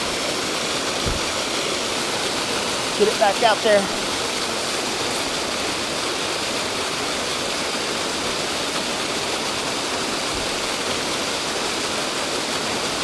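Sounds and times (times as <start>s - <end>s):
churning white water rushing: 0.0s - 13.0s.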